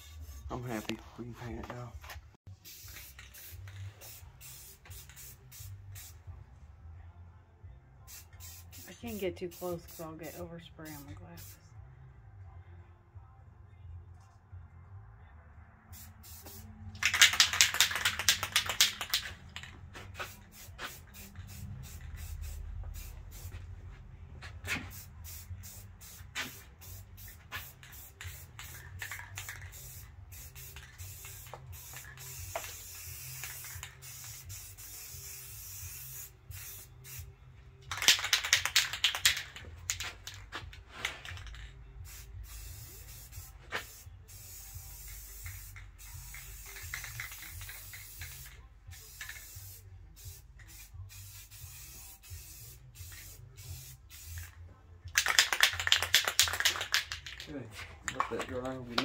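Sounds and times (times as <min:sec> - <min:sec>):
spray-paint can hissing: 0:00.0 - 0:01.0, 0:02.5 - 0:06.2, 0:08.1 - 0:11.6, 0:15.9 - 0:23.6, 0:24.6 - 0:57.4.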